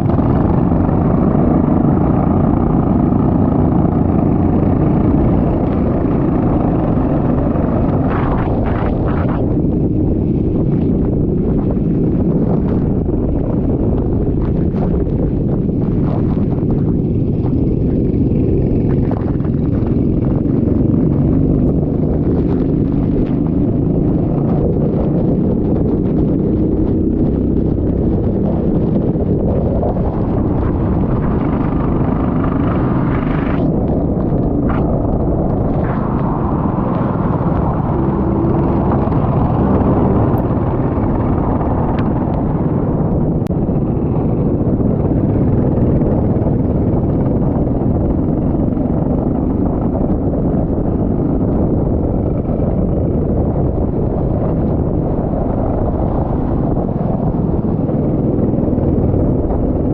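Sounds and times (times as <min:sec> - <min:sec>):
go-kart engine running: 0:00.0 - 0:59.9
wind rumbling on microphone: 0:00.0 - 0:59.9.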